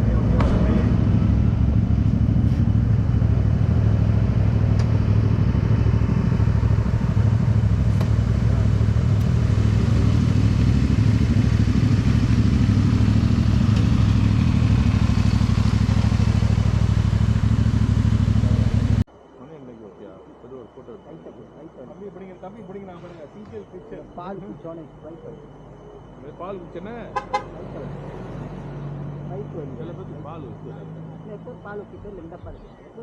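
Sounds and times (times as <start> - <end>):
motorcycle engine cruising: 0.0 - 19.1, 23.2 - 33.0.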